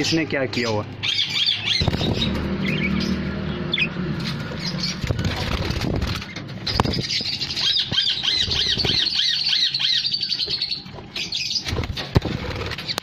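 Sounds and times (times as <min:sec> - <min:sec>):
budgerigar chicks chirping: 0:00.0 - 0:13.0.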